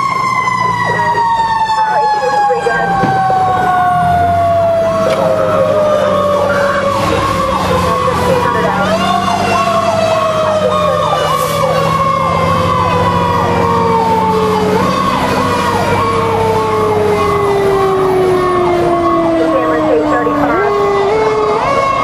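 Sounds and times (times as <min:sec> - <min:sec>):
electronic siren yelping: 0:00.0 - 0:22.0
mechanical siren whine winding down: 0:00.0 - 0:22.0.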